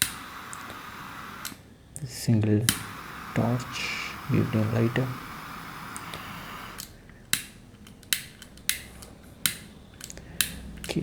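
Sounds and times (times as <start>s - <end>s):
lighter igniter clicking: 0.0s - 11.0s.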